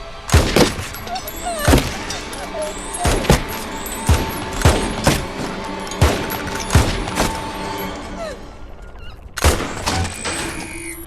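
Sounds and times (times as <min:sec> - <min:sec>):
background music: 0:00.0 - 0:10.6
gunshots with ringing tail: 0:00.2 - 0:08.6, 0:09.4 - 0:10.6.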